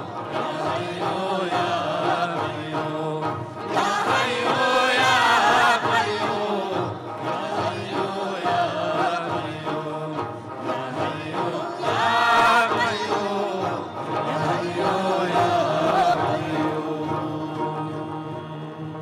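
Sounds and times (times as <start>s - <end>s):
voices chanting a hymn in chorus: 0.0s - 19.0s.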